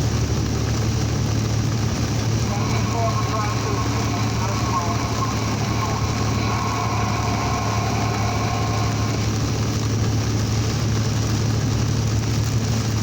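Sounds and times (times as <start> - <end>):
vehicle engine drone: 0.0 - 13.0
road noise: 0.8 - 12.0.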